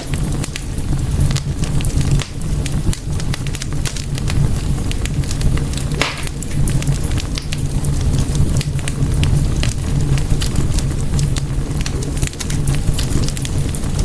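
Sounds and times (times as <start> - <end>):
fire hiss: 0.0 - 14.0
low rumble of flames: 0.0 - 14.0
wood fire crackling and popping: 0.0 - 14.0.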